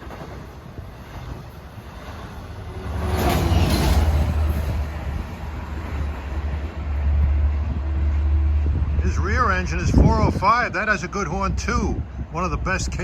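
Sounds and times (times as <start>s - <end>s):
diesel train rumbling past: 0.0s - 13.0s
rush of passing locomotive: 0.0s - 13.0s.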